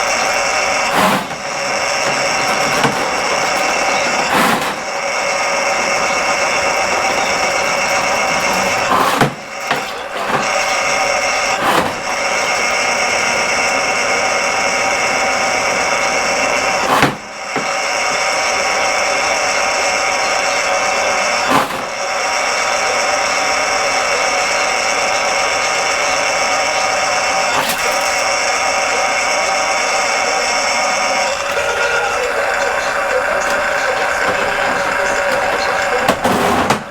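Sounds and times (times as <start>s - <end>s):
drain cleaning machine running: 0.0s - 36.9s.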